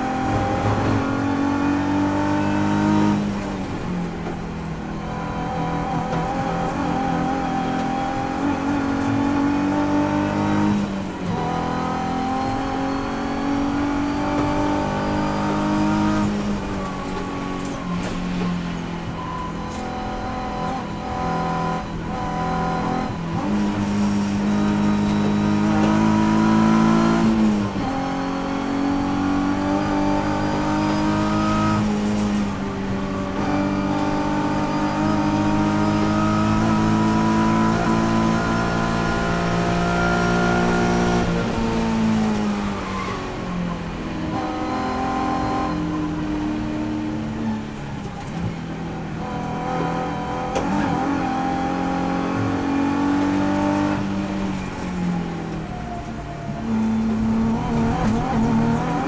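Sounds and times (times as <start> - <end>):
race car engine from cabin: 0.0 - 59.0.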